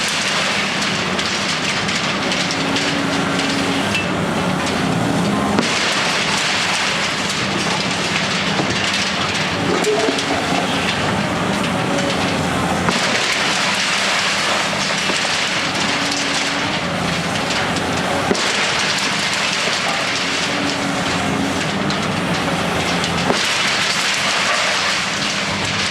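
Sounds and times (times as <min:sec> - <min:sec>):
crackling rattling noise: 0:00.0 - 0:25.9
demolition machine engine hum: 0:00.0 - 0:25.9.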